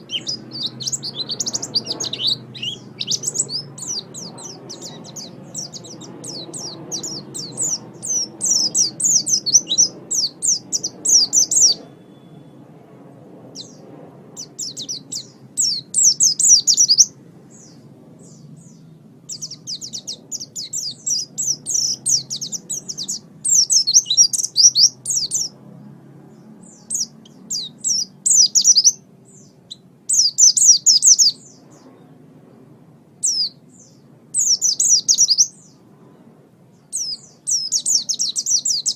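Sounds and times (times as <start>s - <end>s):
bird twittering high-pitched: 0.0s - 12.6s, 13.6s - 13.8s, 14.4s - 25.6s, 26.6s - 32.1s, 33.2s - 35.8s, 36.8s - 38.9s.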